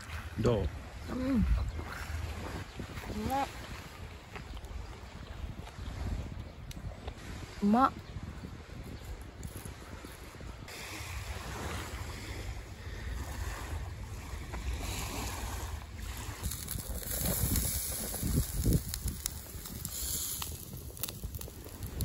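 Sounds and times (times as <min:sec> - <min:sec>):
small waves lapping on shore: 0:00.0 - 0:22.0
wind buffeting microphone: 0:00.0 - 0:22.0.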